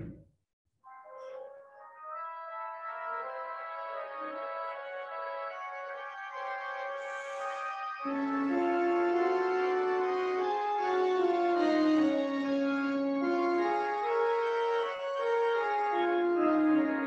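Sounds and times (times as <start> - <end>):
pipe organ chords: 1.0 - 17.0.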